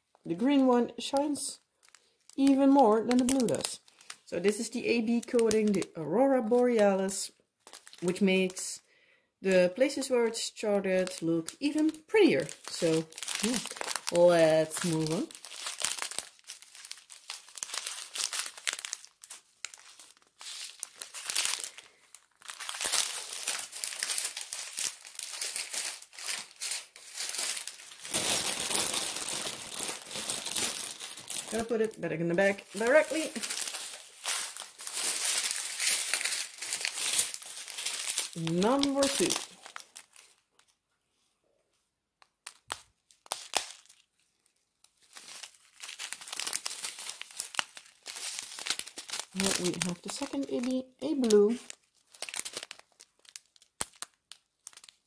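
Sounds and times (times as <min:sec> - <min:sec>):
plastic bags crinkling: 0:00.3 - 0:08.7, 0:09.5 - 0:40.8, 0:42.4 - 0:55.0.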